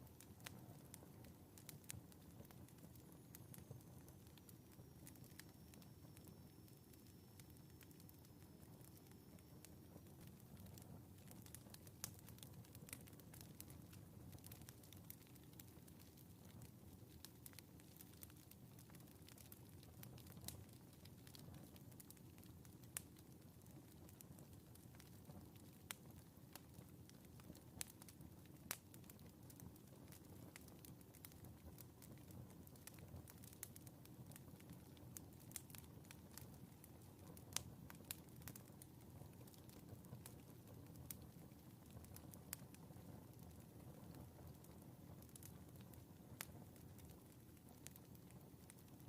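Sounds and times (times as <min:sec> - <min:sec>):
low rumble of flame: 0:00.0 - 0:49.0
wood fire crackling: 0:00.0 - 0:49.0.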